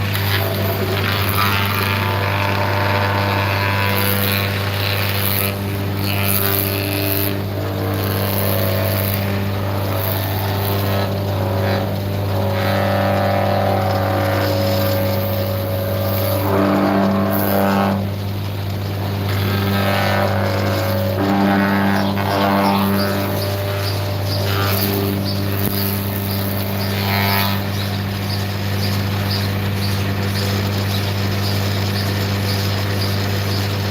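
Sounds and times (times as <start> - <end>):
electric motor humming: 0.0 - 33.9.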